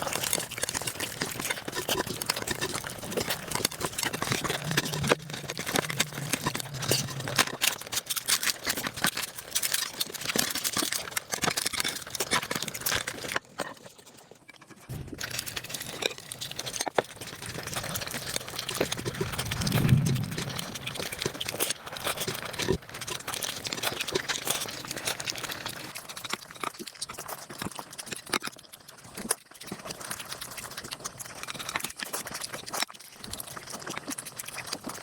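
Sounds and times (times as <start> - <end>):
sped-up chewing and crinkling: 0.0 - 35.0.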